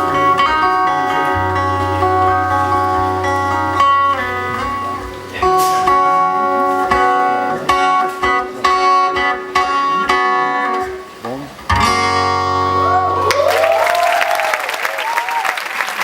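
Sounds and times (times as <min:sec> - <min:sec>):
guitar instrumental music: 0:00.0 - 0:13.5.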